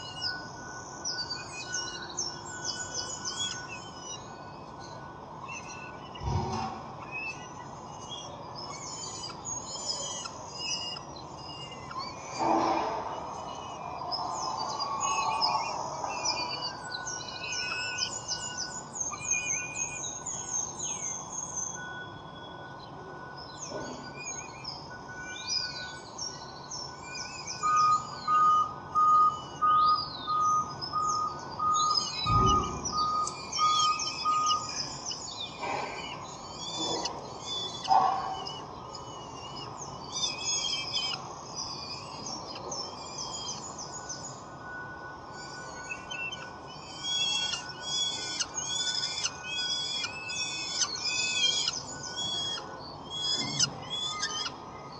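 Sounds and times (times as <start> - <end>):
bird whistled notes: 0.0 - 54.9
songbirds chirping and singing: 0.0 - 54.9.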